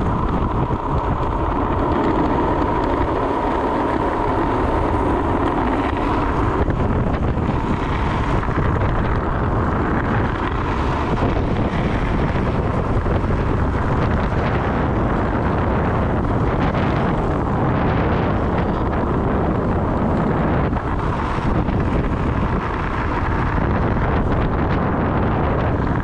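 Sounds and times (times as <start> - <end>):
board wheels rolling on asphalt: 0.0 - 26.0
wind buffeting microphone: 0.0 - 26.0.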